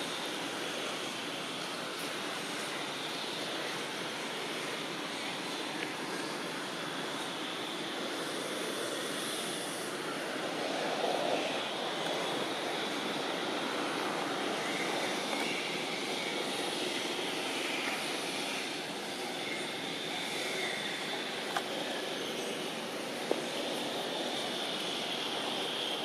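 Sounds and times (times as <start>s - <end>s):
faint high hiss: 0.0s - 26.0s
rushing outdoor background noise: 0.0s - 26.0s.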